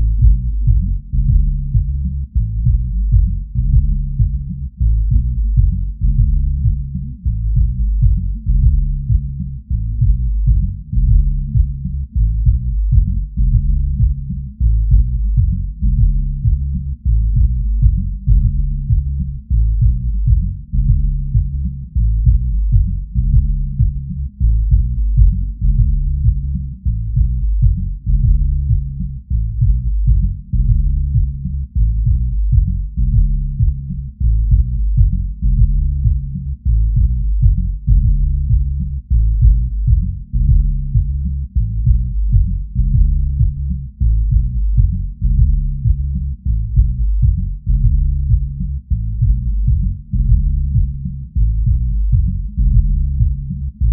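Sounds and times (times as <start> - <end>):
deep bass notes: 0.0 - 53.9
kick drum beats: 0.0 - 53.9.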